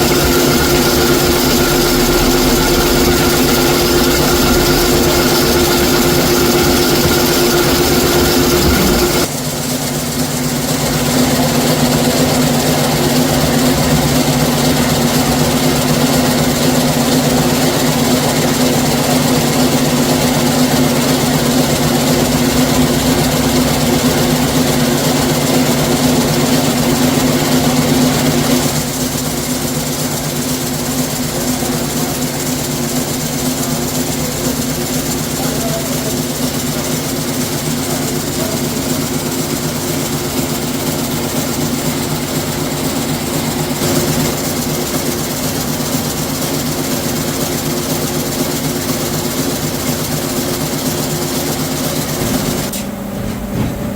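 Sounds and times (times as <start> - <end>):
factory machinery humming: 0.0 - 9.6, 10.4 - 53.9.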